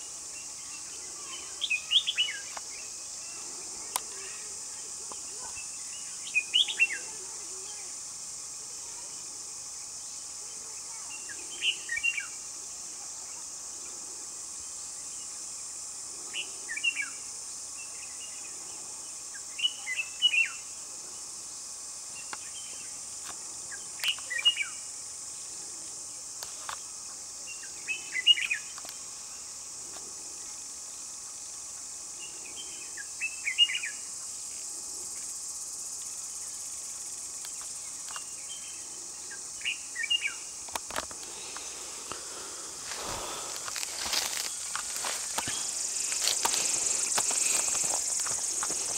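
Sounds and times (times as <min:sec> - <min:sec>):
high drone of insects: 0:00.0 - 0:48.9.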